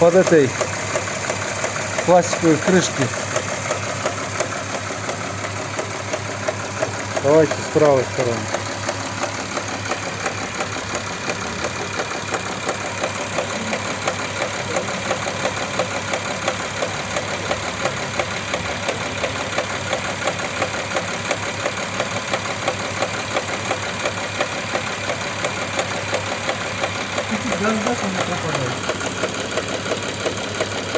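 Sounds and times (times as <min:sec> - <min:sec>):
car engine idling: 0:00.0 - 0:30.9
engine knocking: 0:00.0 - 0:30.9.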